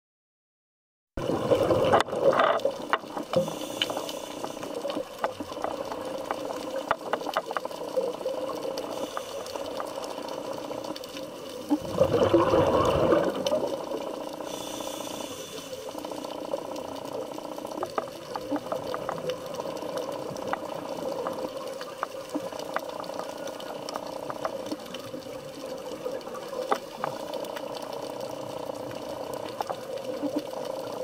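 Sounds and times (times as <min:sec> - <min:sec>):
sharp clicks and crackle: 0:01.2 - 0:31.0
underwater breath bubbles gurgling: 0:01.2 - 0:31.0.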